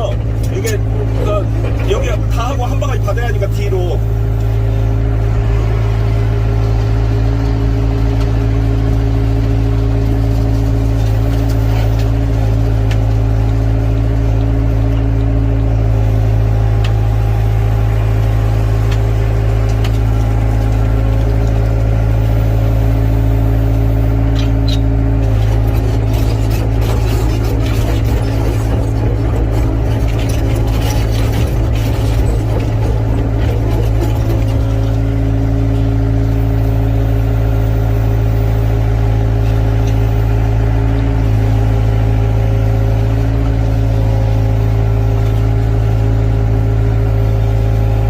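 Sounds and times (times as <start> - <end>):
diesel engine humming: 0.0 - 48.0.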